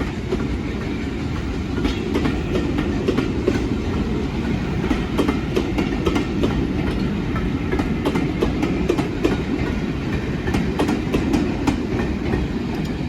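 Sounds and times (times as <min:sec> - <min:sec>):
train rumbling along track: 0:00.0 - 0:13.0
wheels clicking over rail joints: 0:00.0 - 0:13.0.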